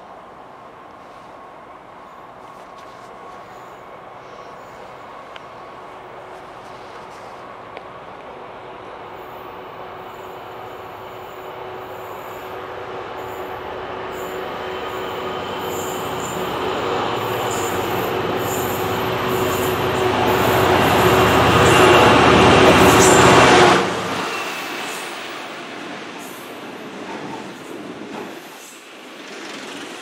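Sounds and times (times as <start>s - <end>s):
diesel locomotive approaching: 0.0s - 30.0s.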